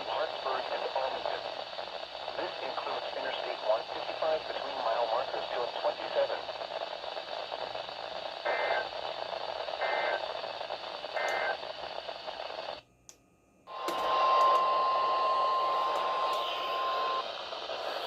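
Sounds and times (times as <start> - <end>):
radio hiss: 0.0 - 12.8, 13.7 - 18.0.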